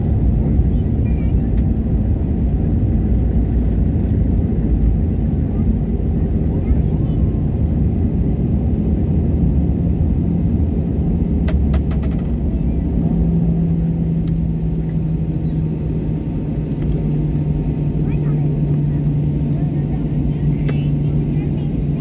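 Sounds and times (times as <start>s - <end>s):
aircraft cabin rumble: 0.0s - 22.0s
engine hum: 0.0s - 22.0s.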